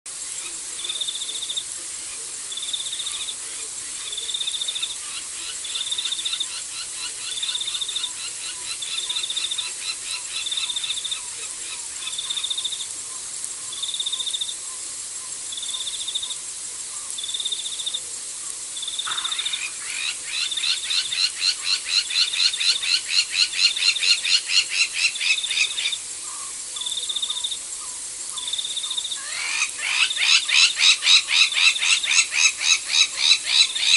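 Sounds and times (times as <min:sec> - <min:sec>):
frogs calling: 0:00.2 - 0:33.9
insect trilling: 0:00.3 - 0:33.9.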